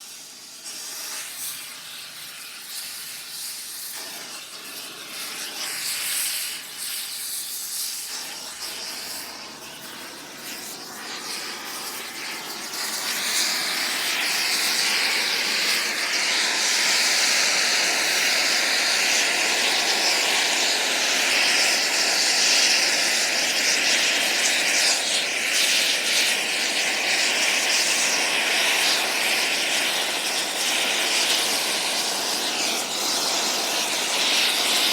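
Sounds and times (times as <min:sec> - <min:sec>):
air torch hissing on metal: 0:00.0 - 0:34.9.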